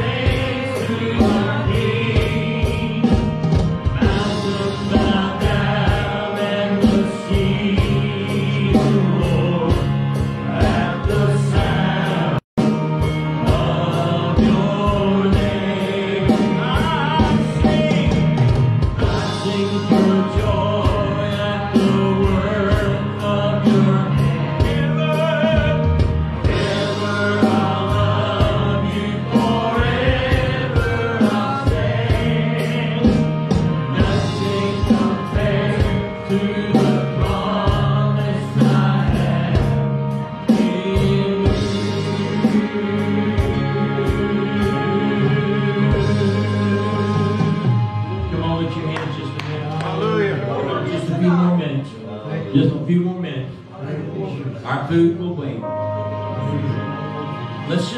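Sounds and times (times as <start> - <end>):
men singing gospel together: 0.0 - 48.2
keyboard guitars and drums: 0.0 - 53.7, 55.0 - 57.9.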